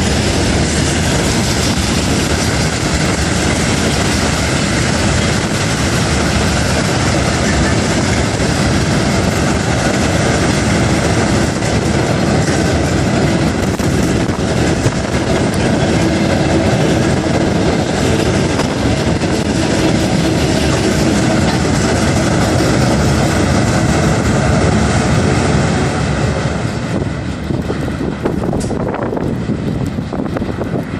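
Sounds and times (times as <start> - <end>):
railway wagons rumbling over bridge: 0.0 - 30.9
wheel clatter on rails: 0.0 - 30.9.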